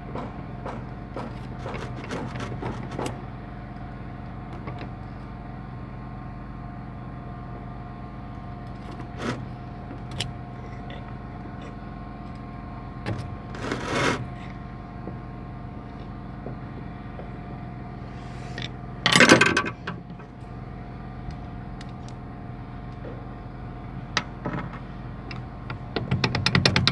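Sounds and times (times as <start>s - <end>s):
steady mechanical hum: 0.0s - 26.9s.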